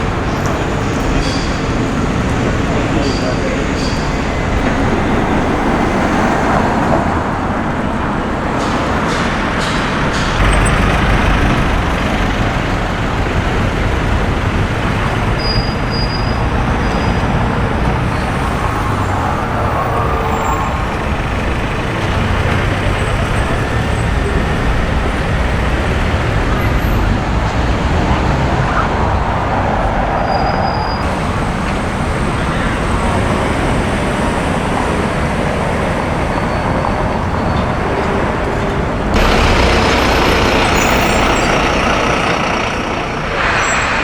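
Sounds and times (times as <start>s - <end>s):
deep engine rumble: 0.0s - 44.0s
passing vehicles: 0.0s - 44.0s.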